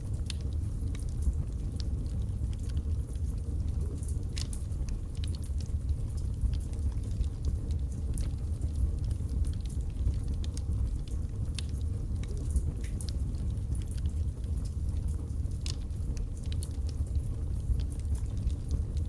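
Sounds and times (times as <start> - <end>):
burning wood crackling and popping: 0.0 - 19.0
low rumble of flames: 0.0 - 19.0.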